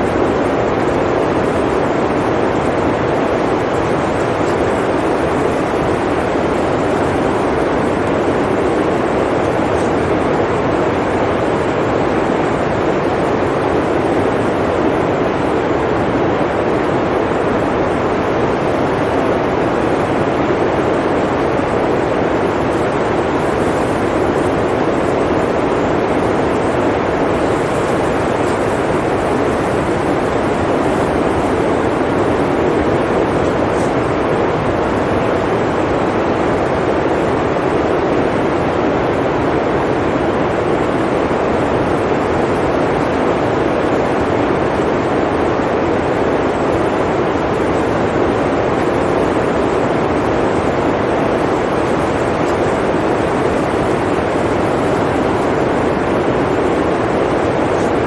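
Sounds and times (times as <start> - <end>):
blizzard wind blowing: 0.0 - 58.0.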